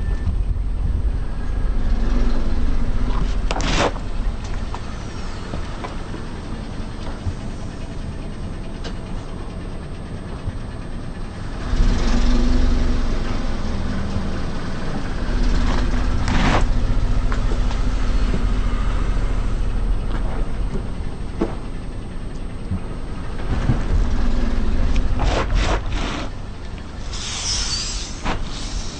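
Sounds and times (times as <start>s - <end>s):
car engine running: 0.0s - 28.9s.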